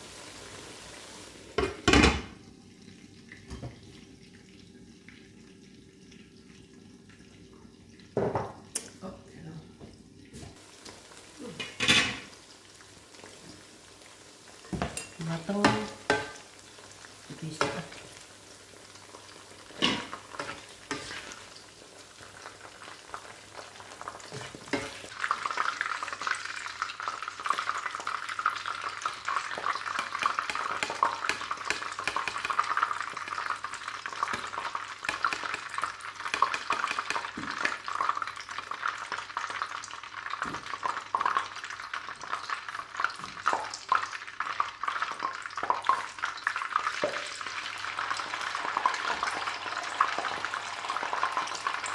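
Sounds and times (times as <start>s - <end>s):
food sizzling in a pan: 0.0s - 51.9s.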